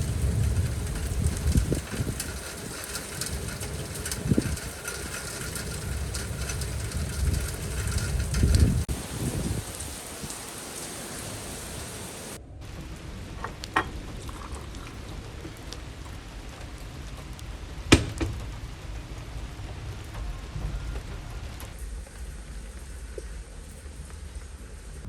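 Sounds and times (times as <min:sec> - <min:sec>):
raindrop taps: 0:00.0 - 0:23.4
steady rain: 0:00.0 - 0:25.0.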